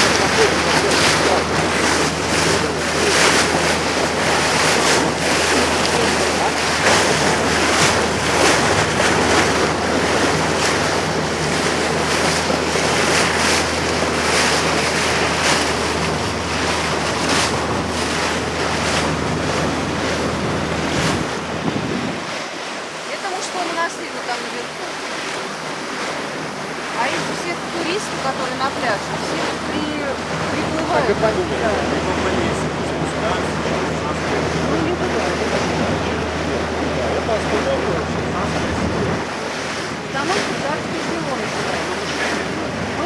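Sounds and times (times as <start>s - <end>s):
wind buffeting microphone: 0.0s - 22.4s, 25.0s - 43.0s
boat engine drone: 0.0s - 43.0s
water rushing and splashing: 0.0s - 43.0s.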